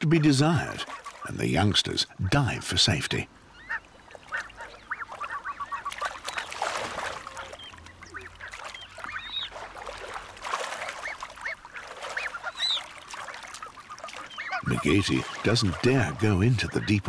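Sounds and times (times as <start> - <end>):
geese honking alarm calls: 0.0 - 2.8, 3.4 - 17.0
splashing in shallow water: 0.4 - 1.4, 3.7 - 17.0.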